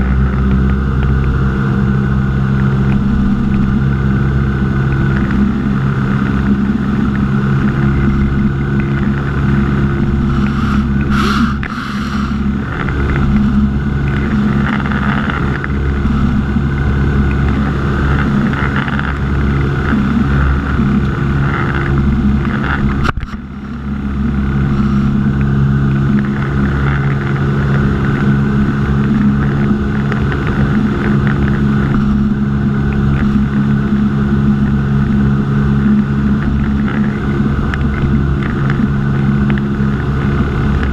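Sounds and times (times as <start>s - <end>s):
aircraft engine and propeller droning: 0.0s - 40.9s.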